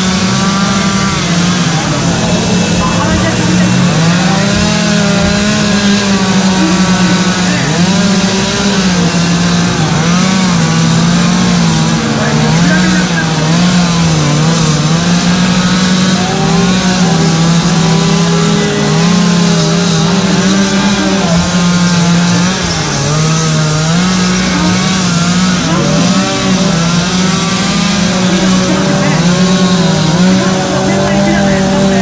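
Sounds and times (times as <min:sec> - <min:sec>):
chainsaws cutting wood: 0:00.0 - 0:32.0.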